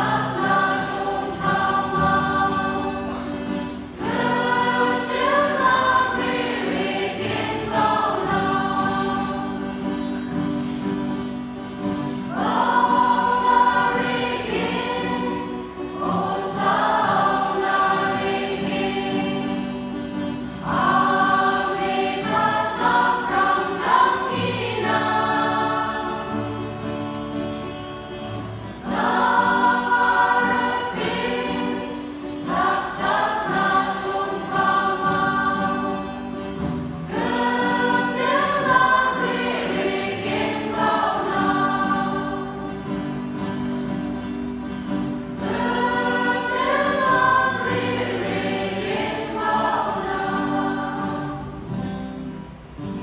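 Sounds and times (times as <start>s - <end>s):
mixed choir singing: 0.0s - 10.4s, 12.0s - 27.1s, 28.6s - 43.6s, 45.1s - 51.8s.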